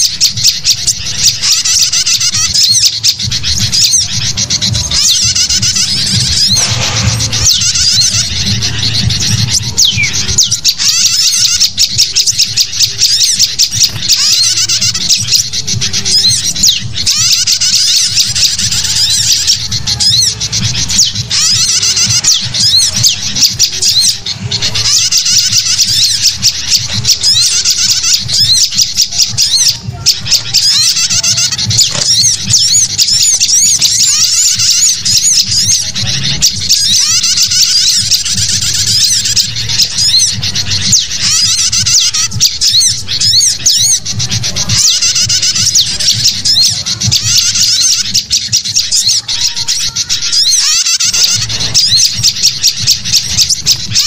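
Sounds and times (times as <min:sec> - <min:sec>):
bulbul calls: 0:00.0 - 0:54.0
small birds chirping: 0:00.0 - 0:54.0.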